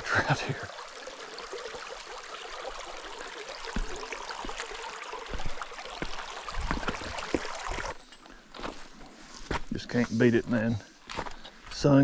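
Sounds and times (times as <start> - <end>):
creek water running over rocks: 0.0 - 12.0.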